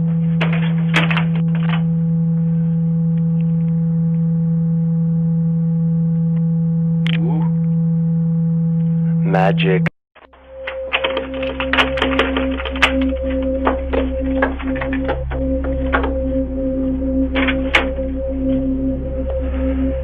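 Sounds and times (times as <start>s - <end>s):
loud low-pitched hum: 0.0s - 20.0s.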